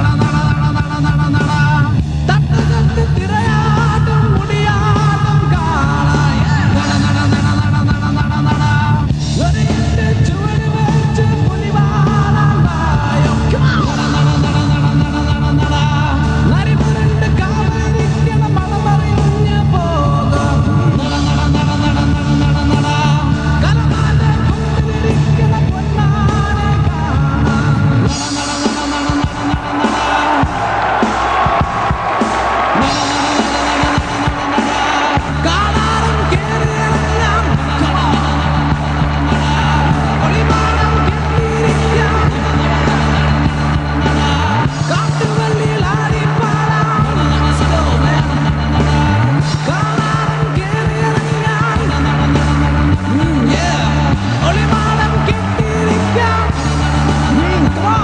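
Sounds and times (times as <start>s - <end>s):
drums: 0.0s - 58.0s
electric guitar: 0.0s - 58.0s
live rock band playing: 0.0s - 58.0s
man singing yelled vocals: 0.0s - 58.0s.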